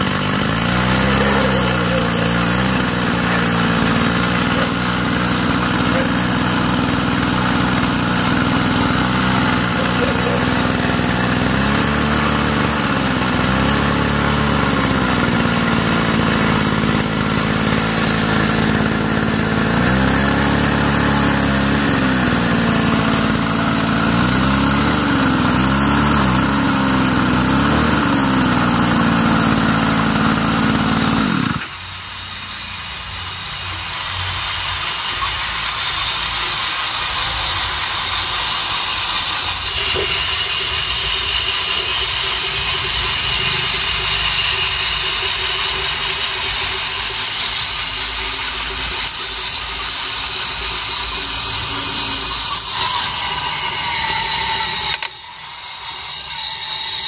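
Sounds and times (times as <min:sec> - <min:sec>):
hydraulic pump whine: 0:00.0 - 0:57.0.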